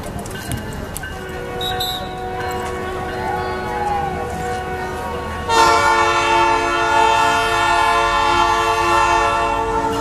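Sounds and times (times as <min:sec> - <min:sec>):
locomotive air horn chord: 0:01.3 - 0:10.0.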